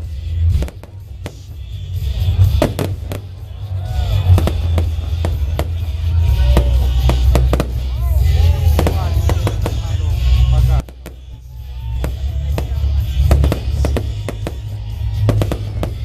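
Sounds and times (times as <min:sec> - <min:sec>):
fireworks bangs: 0:00.0 - 0:16.0
music: 0:00.0 - 0:16.0.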